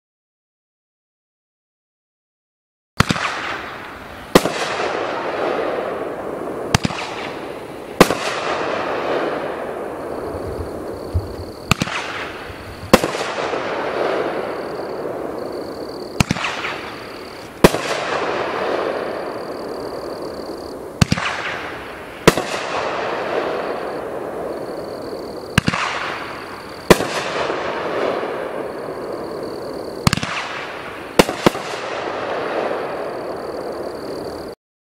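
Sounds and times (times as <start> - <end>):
loud aerial firework burst: 3.0 - 34.2
firework crackle: 3.0 - 34.6.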